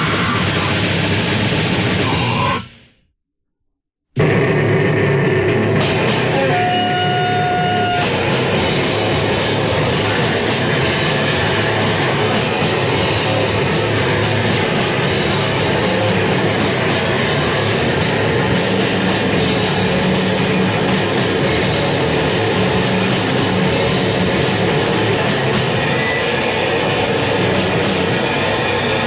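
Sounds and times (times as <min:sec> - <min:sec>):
distorted guitar: 0:00.0 - 0:02.9, 0:04.2 - 0:29.0
drums: 0:00.0 - 0:03.0, 0:04.1 - 0:29.0
bass: 0:00.0 - 0:03.1, 0:04.1 - 0:29.0.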